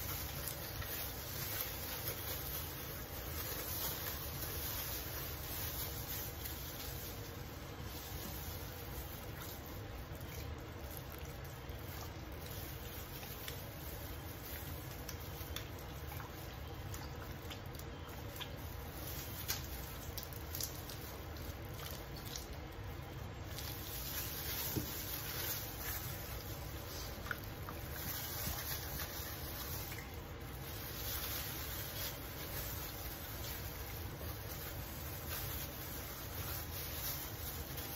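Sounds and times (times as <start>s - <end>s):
gloved hands squishing meat: 0.0s - 37.9s
low background noise: 0.0s - 37.9s.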